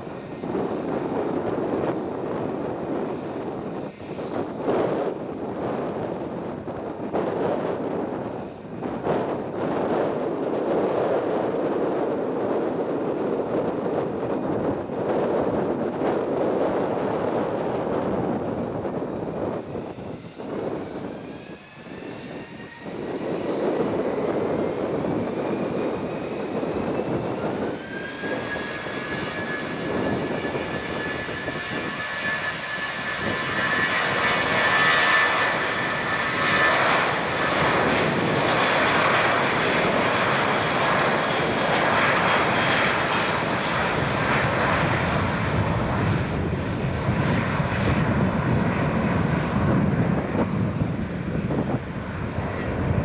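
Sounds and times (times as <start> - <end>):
jet engines spooling up: 0.0 - 53.0
rising engine whine: 0.0 - 53.0.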